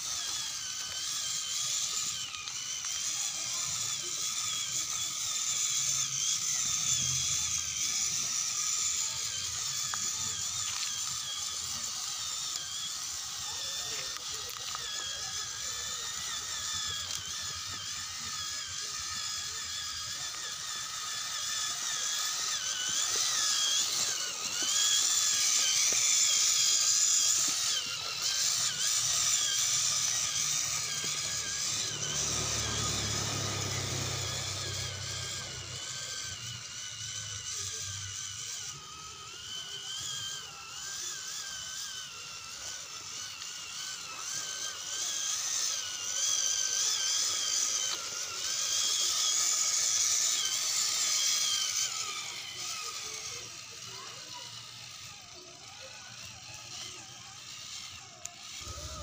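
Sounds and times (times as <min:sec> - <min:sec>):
electric motor whining: 0:00.0 - 0:59.0.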